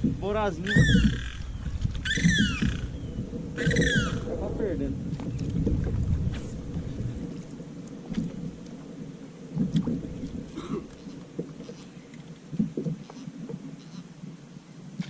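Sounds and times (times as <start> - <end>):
water sloshing against kayak hull: 0.0 - 14.2.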